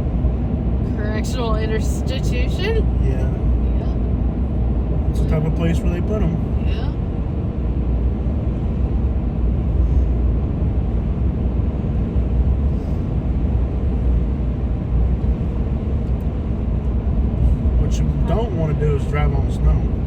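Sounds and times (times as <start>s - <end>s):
vehicle engine and tyre rumble: 0.0s - 20.0s.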